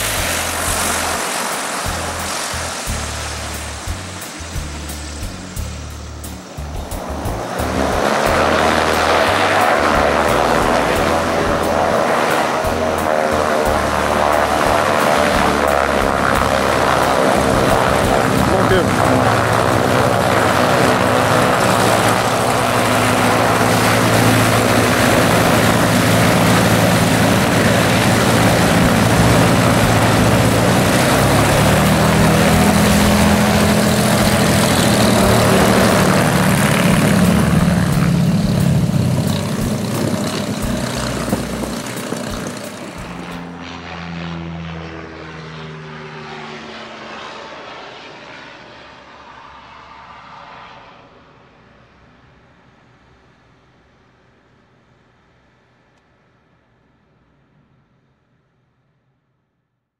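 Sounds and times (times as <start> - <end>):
propeller aircraft engines droning: 0.0 - 57.8.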